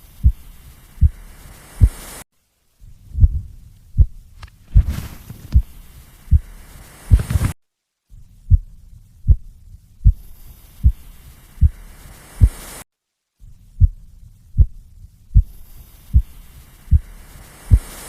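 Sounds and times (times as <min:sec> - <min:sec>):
heartbeat thumps: 0:00.0 - 0:02.0, 0:02.8 - 0:12.6, 0:13.4 - 0:18.0
faint low hum: 0:00.0 - 0:18.0.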